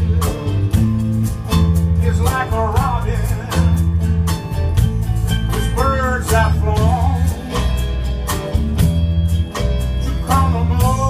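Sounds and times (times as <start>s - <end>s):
acoustic guitars: 0.0s - 11.0s
bass line: 0.0s - 11.0s
drums: 0.0s - 11.0s.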